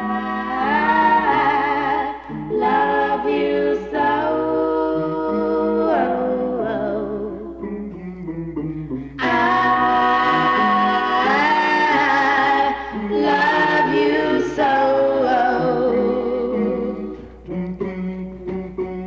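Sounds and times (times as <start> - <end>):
song with long held vocal notes: 0.0 - 19.0.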